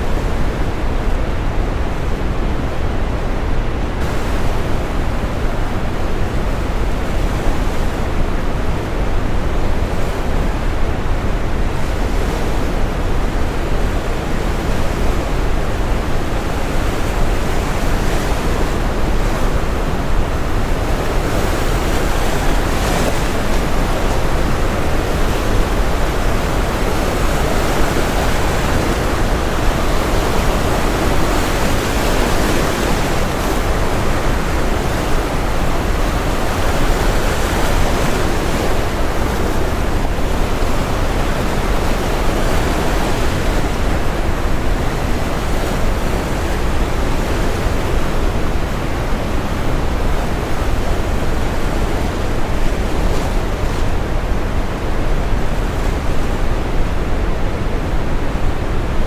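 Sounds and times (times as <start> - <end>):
brown noise hiss: 0.0 - 59.0
ocean waves breaking: 3.8 - 59.0.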